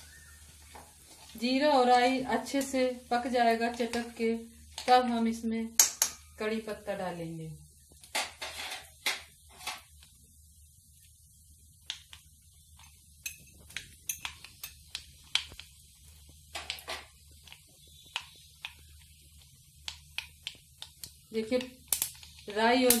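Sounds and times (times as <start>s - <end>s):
seeds popping in hot oil: 0.0s - 23.0s.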